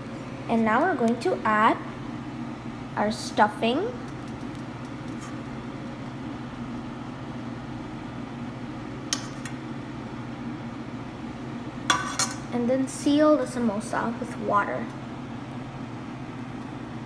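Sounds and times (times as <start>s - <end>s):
low kitchen hum: 0.0s - 17.0s.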